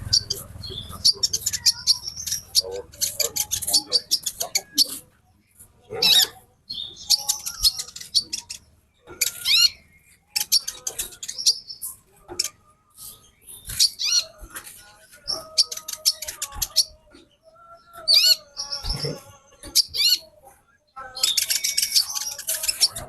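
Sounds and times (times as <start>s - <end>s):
bird twittering chirps: 0.0s - 5.0s, 6.0s - 14.4s, 15.2s - 20.3s, 21.2s - 23.0s.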